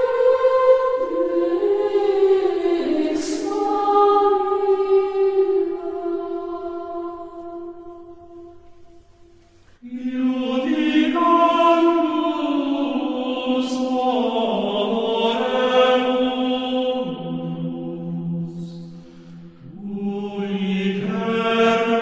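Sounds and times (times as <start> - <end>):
choir chanting held notes: 0.0 - 9.0, 9.8 - 22.0.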